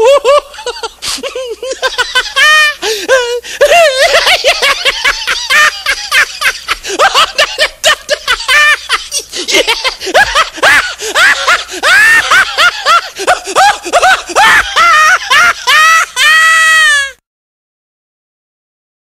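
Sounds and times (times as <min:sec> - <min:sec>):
high-pitched cackling laughter: 0:00.0 - 0:17.2.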